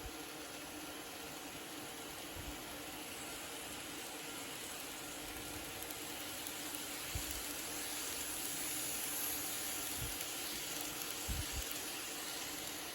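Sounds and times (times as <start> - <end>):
model train hissing on track: 0.0 - 12.9.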